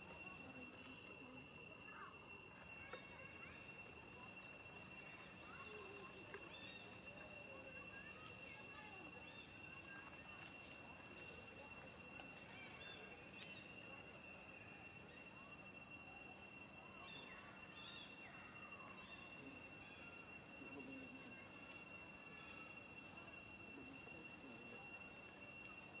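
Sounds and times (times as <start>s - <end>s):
faint chirps and calls: 0.0s - 26.0s
high-pitched insect drone: 0.0s - 26.0s.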